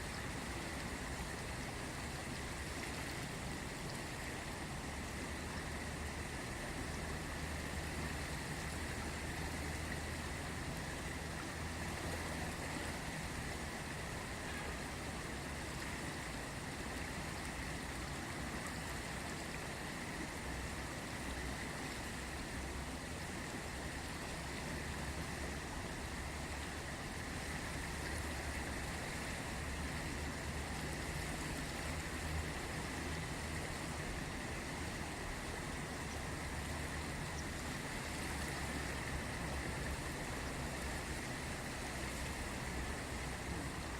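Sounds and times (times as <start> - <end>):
river flowing: 0.0 - 43.9.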